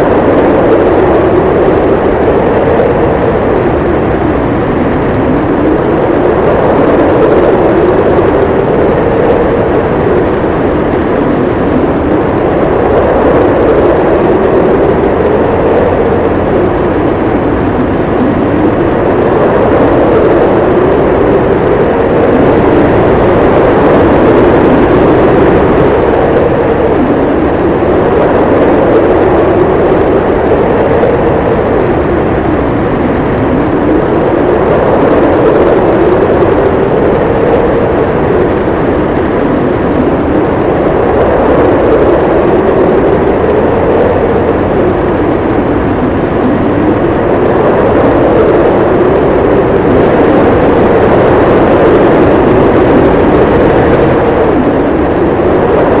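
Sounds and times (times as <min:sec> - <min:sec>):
howling blizzard wind: 0:00.0 - 0:56.0.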